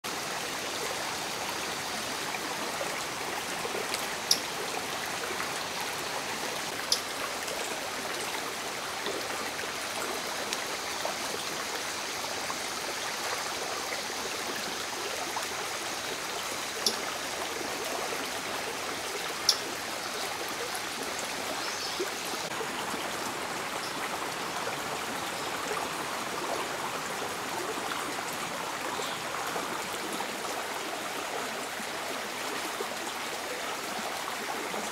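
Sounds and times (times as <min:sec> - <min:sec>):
flowing river water: 0:00.0 - 0:34.9.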